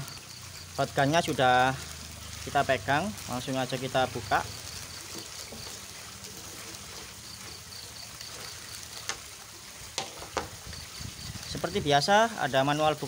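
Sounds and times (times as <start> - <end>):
plastic bag rustling and crinkling: 1.2 - 11.9.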